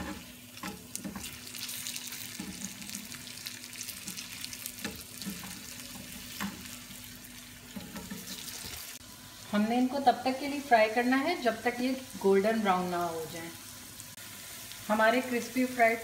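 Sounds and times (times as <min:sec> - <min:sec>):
cutlets sizzling in oil: 0:00.0 - 0:16.0.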